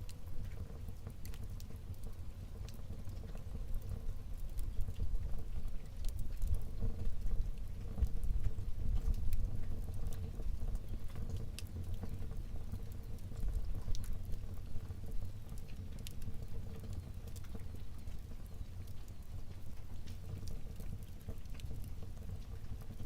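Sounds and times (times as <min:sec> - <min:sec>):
fire crackles and pops: 0:00.0 - 0:23.0
low rumble of flames: 0:00.0 - 0:23.0.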